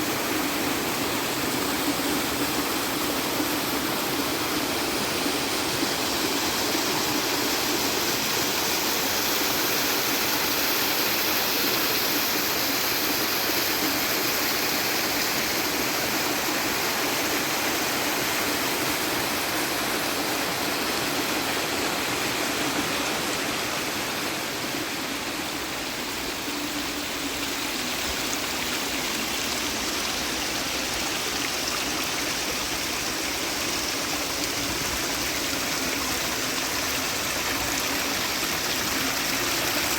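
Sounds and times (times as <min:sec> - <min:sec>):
mountain stream running water: 0:00.0 - 0:39.9.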